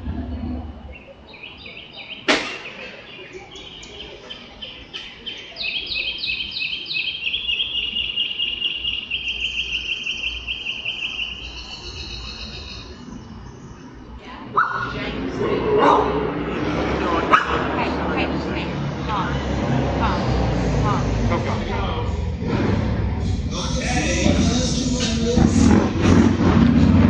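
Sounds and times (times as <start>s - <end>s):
small birds chirping and trilling: 0.0s - 21.9s.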